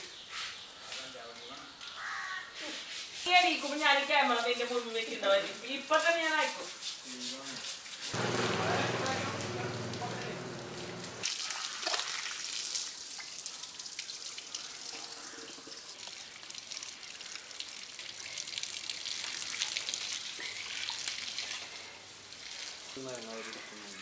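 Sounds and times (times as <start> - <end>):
hose water spraying and splashing: 2.5 - 24.0.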